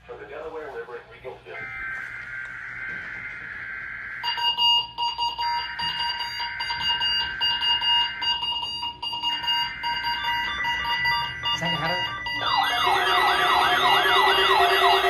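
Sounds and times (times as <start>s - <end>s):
steady beeping alarm tone: 1.4s - 15.0s.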